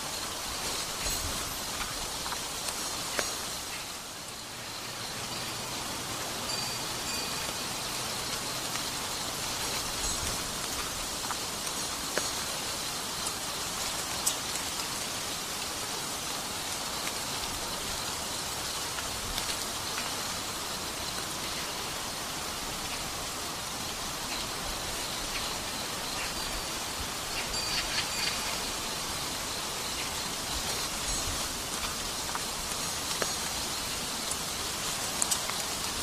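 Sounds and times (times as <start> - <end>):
rain falling: 0.0 - 36.0
sharp drips ticking: 0.2 - 5.6, 6.4 - 21.9, 23.9 - 36.0.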